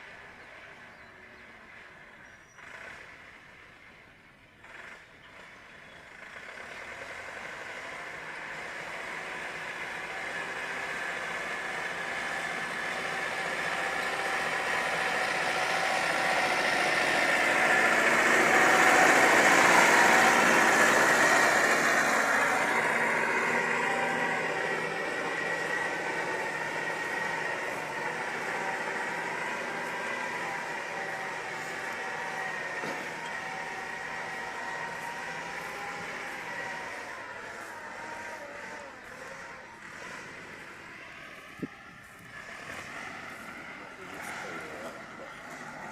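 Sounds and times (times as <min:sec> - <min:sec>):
tractor diesel engine passing: 0:00.0 - 0:45.9.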